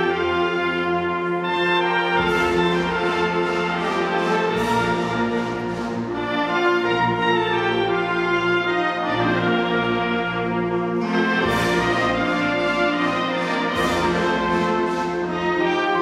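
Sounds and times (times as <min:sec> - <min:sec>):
wind band playing held chords: 0:00.0 - 0:16.0.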